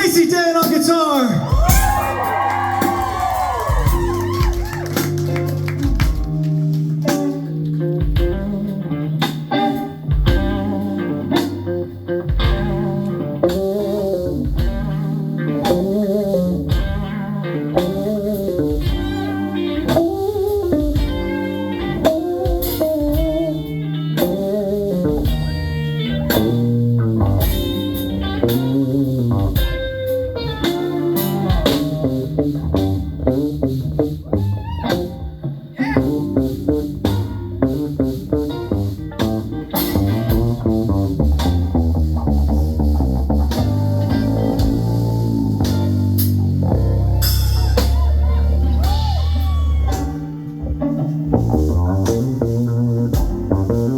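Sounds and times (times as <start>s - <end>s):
bass guitar: 0.0s - 53.9s
drum kit: 0.0s - 53.9s
guitar solo: 0.0s - 53.9s.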